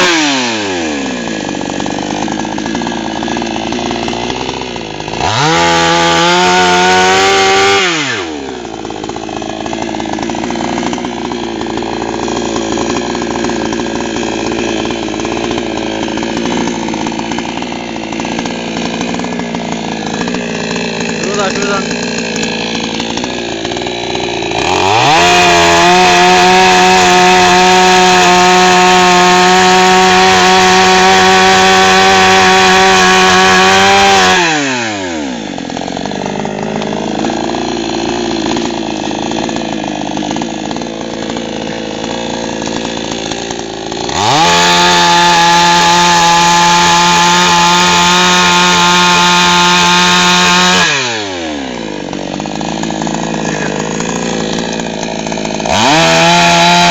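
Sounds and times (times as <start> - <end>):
chainsaw idling and revving: 0.0 - 56.9.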